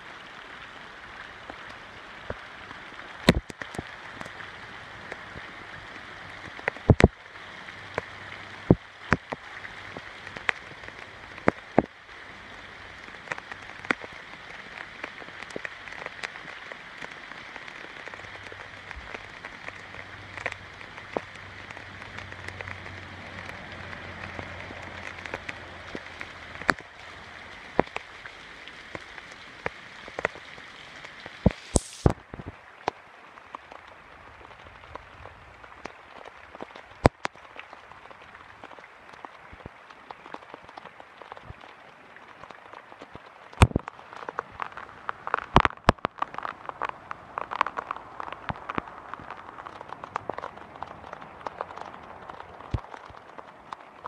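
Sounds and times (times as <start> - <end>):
rain hissing: 0.0 - 32.6, 40.4 - 54.0
raindrops tapping: 0.0 - 54.0.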